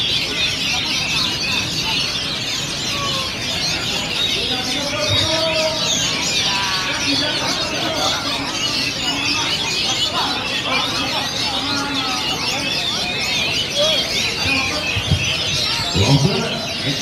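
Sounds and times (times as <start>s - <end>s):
many birds singing: 0.0s - 17.0s
voices murmuring: 0.0s - 17.0s.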